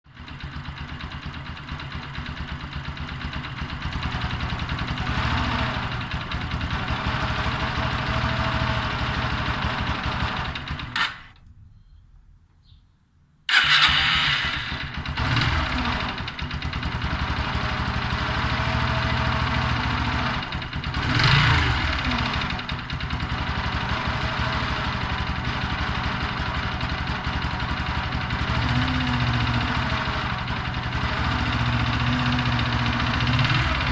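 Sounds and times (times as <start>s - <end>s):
motorcycle engine running raspily: 0.1s - 11.3s, 13.5s - 33.9s.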